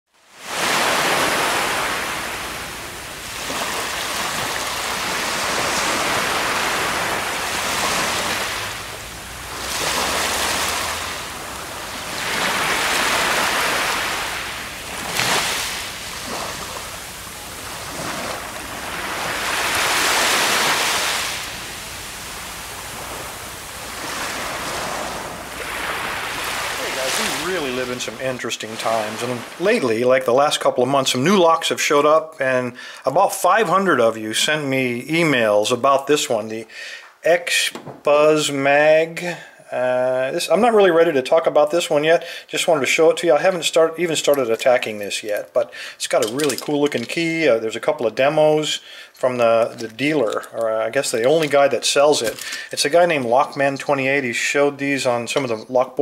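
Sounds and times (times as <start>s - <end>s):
ocean waves on a beach: 0.2s - 32.6s, 39.9s - 56.0s.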